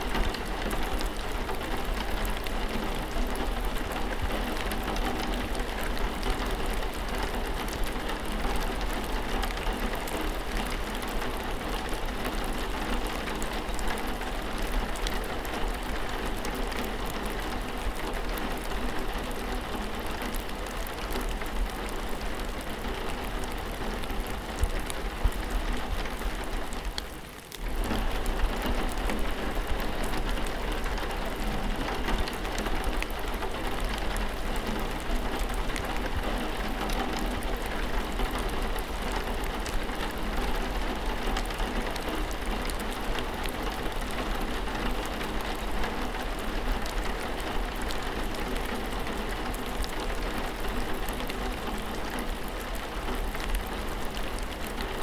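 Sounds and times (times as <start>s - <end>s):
raindrops ticking: 0.0s - 55.0s
steady rain falling: 0.0s - 55.0s.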